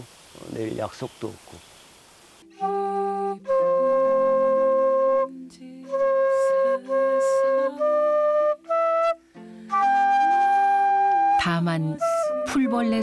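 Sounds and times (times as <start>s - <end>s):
bamboo flute slow melody: 2.4s - 13.0s.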